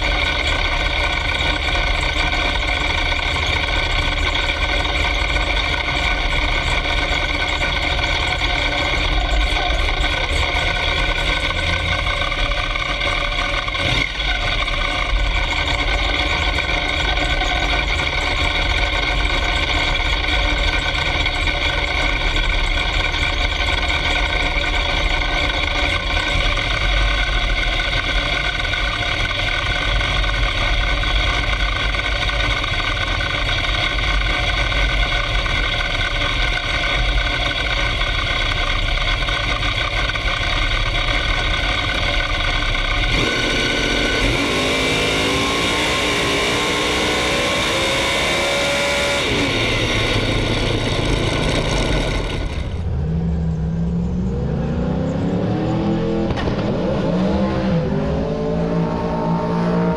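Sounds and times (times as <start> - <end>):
race car engine idling: 0.0 - 55.3.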